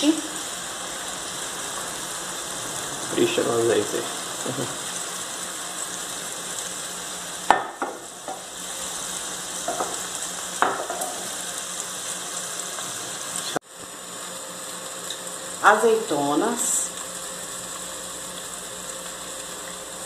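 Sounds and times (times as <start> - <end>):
vegetables sizzling in a hot pot: 0.0 - 20.0.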